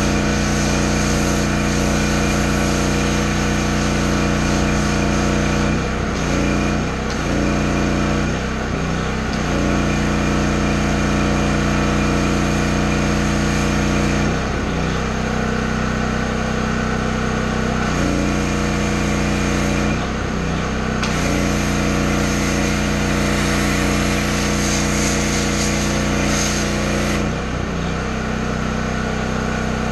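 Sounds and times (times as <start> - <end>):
pressure washer engine running: 0.0 - 29.9.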